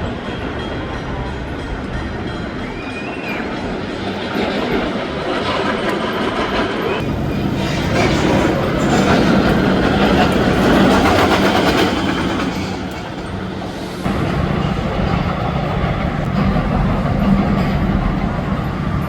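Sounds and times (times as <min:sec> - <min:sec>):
roller coaster rumbling on track: 0:00.0 - 0:19.0.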